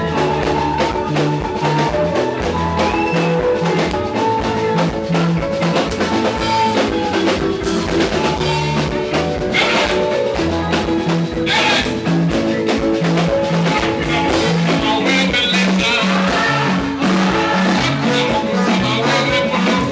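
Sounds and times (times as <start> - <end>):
bass guitar: 0.0 - 19.9
drum kit beat: 0.0 - 19.9
electric guitar: 0.0 - 19.9
keyboard: 0.0 - 19.9.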